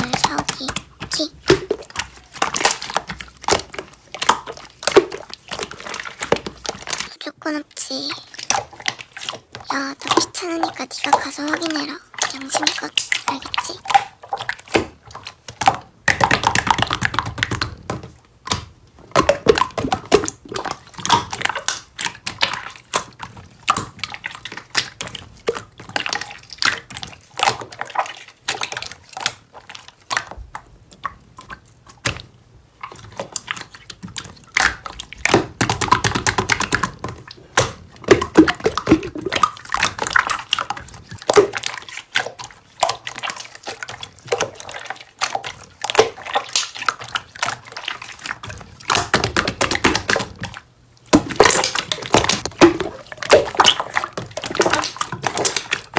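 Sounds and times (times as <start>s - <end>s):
slime squelching: 0.0s - 55.9s.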